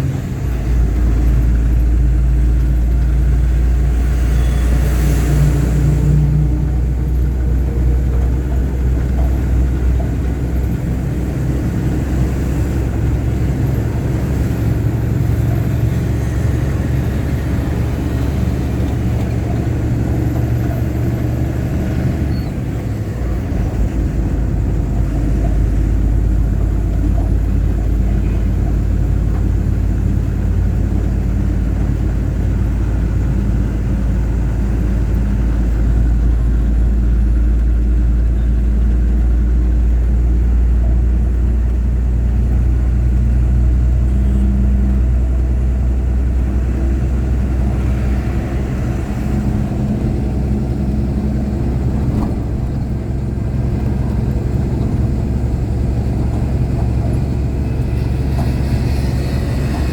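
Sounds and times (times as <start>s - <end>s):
road noise: 0.0s - 59.9s
truck engine droning: 0.0s - 59.9s.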